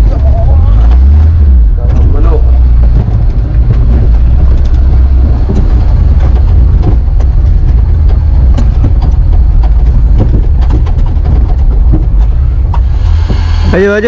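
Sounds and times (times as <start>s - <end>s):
vehicle engine rumbling: 0.0s - 14.0s
short knocks: 0.1s - 13.6s.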